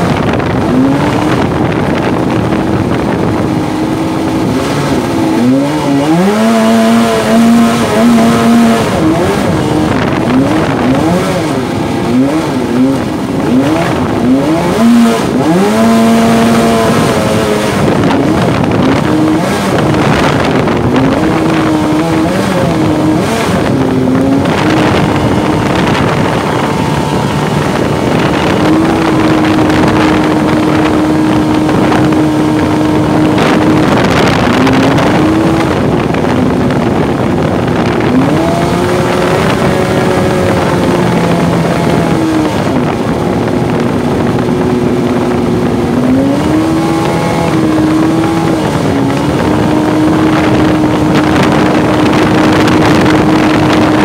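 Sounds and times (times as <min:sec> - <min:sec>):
jet boat engine revving: 0:00.0 - 0:54.0.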